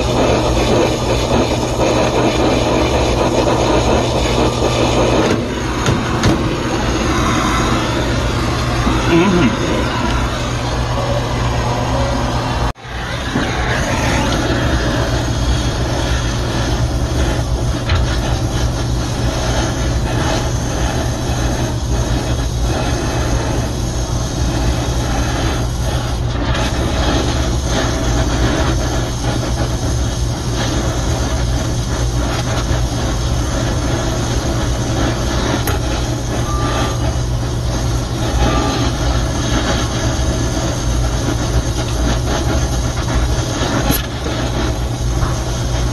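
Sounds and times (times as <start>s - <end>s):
torch flame hissing: 0.0s - 45.9s.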